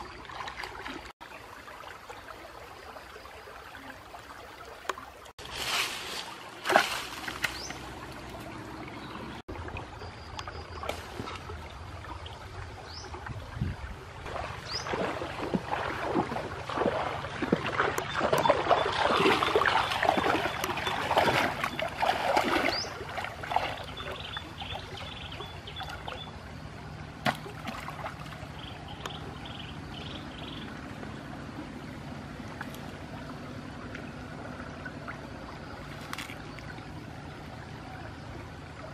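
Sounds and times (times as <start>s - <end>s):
trickle of flowing water: 0.0s - 38.9s
water splashing from wading: 0.0s - 38.9s.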